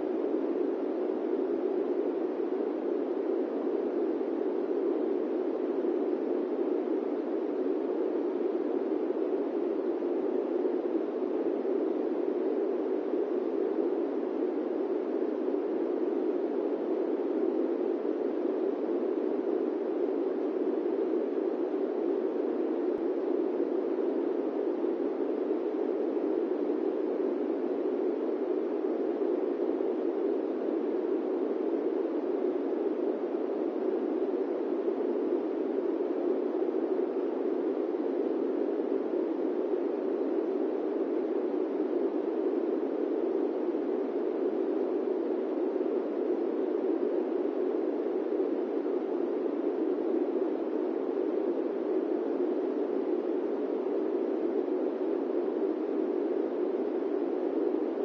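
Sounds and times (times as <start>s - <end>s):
airplane cabin white noise: 0.0s - 58.0s.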